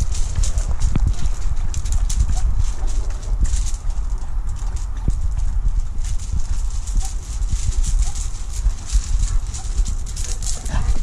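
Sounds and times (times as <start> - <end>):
crunching on gravel: 0.0 - 11.0
wind buffeting microphone: 0.0 - 11.0.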